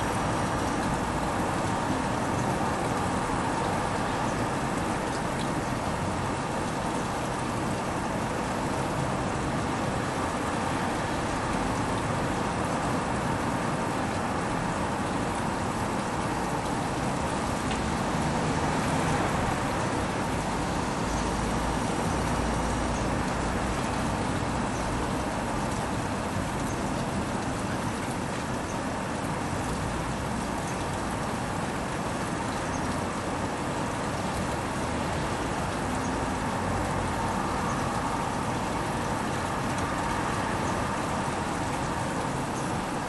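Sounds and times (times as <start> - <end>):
distant road traffic hum: 0.0 - 43.0.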